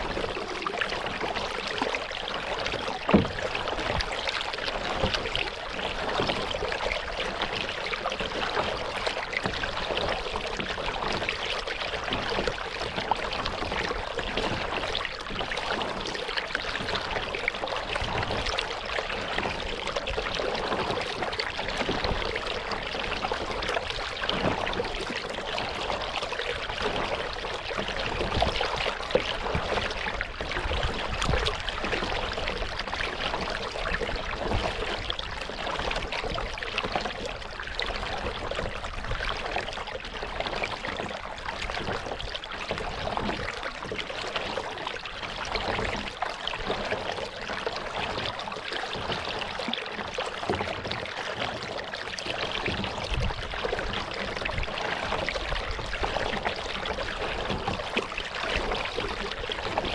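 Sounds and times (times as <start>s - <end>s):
water splashing from paddling: 0.0s - 59.9s.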